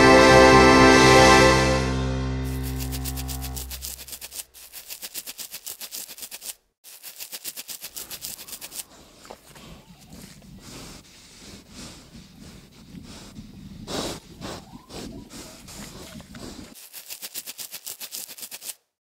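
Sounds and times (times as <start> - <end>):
puppy snuffling and snorting: 2.5 - 18.7.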